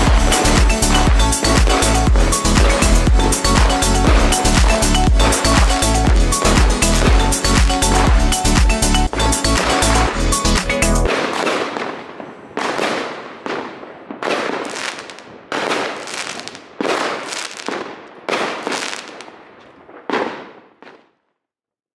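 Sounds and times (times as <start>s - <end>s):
fireworks bursting: 0.0s - 21.3s.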